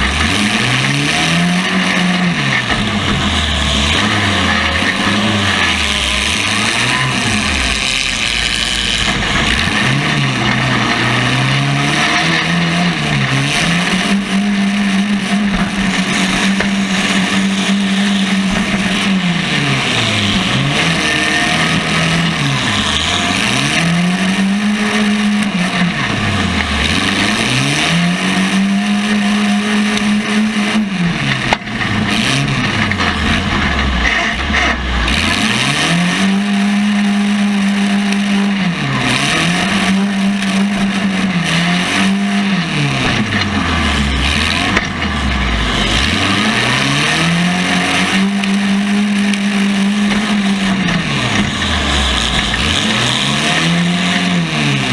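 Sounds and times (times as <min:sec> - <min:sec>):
car engine revving hard: 0:00.0 - 0:54.9
din of other engines: 0:00.0 - 0:54.9.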